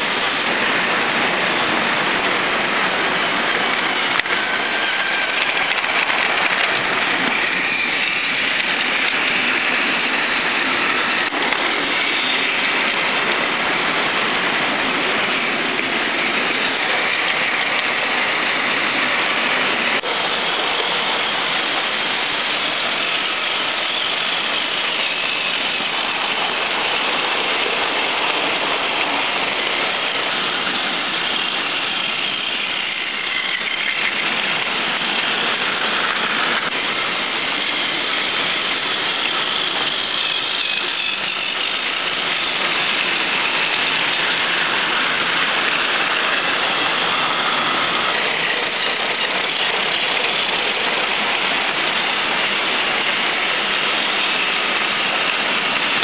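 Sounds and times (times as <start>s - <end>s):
toy train motors whirring: 0.1s - 56.0s
plastic wheels clattering over rail joints: 3.4s - 56.0s.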